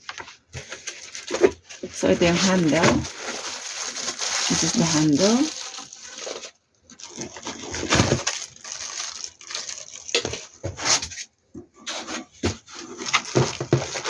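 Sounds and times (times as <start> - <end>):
plastic packaging crinkling: 0.0 - 11.3, 11.9 - 14.0.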